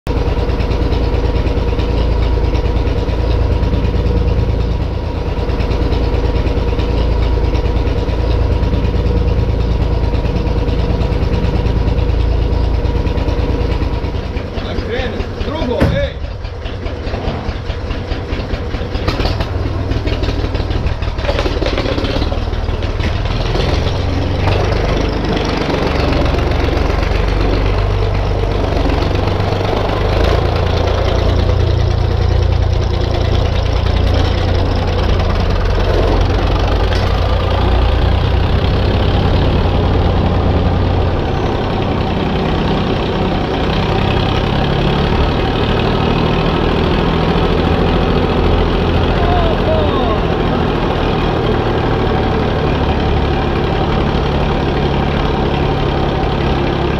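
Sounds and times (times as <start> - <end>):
diesel tractor engine under load: 0.1 - 56.9.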